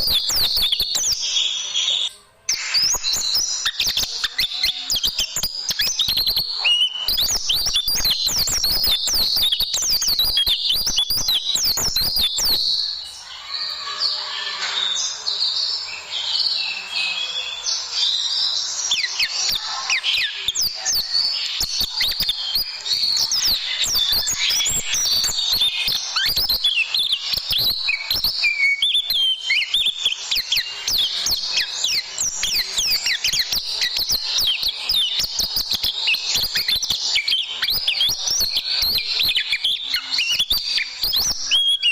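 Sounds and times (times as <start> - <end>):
bird twittering chirps and trills: 0.0 - 41.9.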